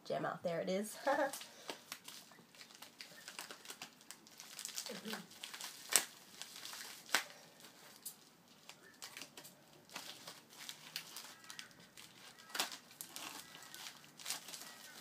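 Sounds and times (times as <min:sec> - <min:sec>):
plastic packaging crinkling: 0:01.0 - 0:15.0.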